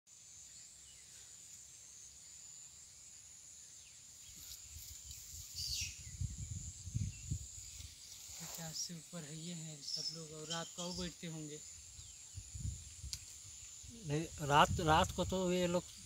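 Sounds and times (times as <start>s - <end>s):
insects droning: 0.1s - 16.0s.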